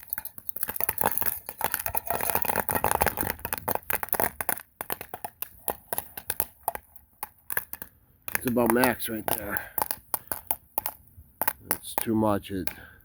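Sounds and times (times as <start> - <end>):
popcorn popping: 0.0 - 13.0.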